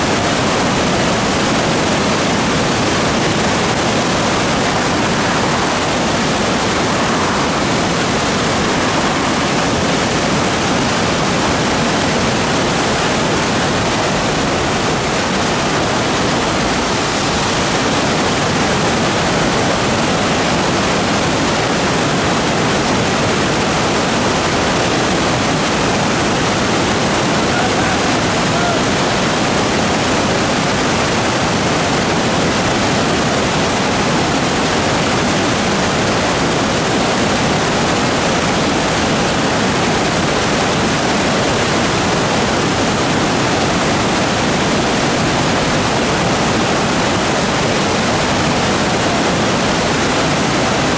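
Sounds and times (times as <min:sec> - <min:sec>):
whitewater rushing over rapids: 0:00.0 - 0:50.9.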